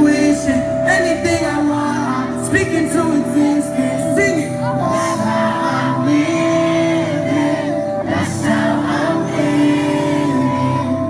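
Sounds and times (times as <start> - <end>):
live hip-hop music: 0.0 - 11.0
long held sung notes: 0.0 - 11.0
steady low bass: 0.0 - 11.0.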